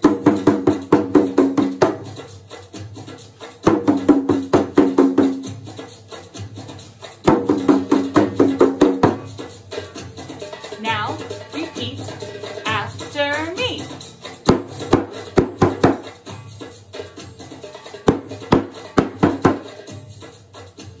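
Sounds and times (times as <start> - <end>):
hand drum quick beats: 0.0 - 5.8, 7.2 - 16.5, 17.7 - 20.0.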